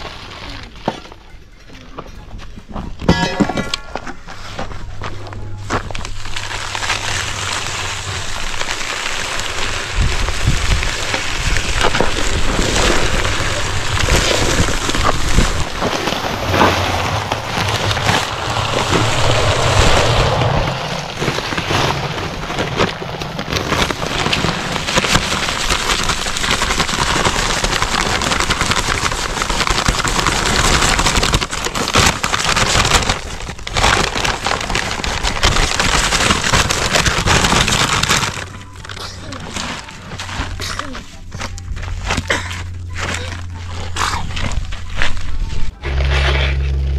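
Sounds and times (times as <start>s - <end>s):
dry concrete mix pouring: 5.7s - 46.9s.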